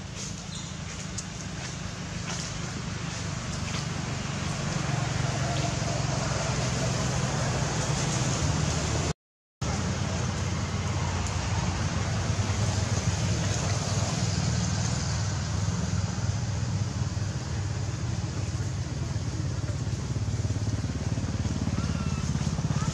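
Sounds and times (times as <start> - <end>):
low rumble with hiss: 0.0 - 22.9.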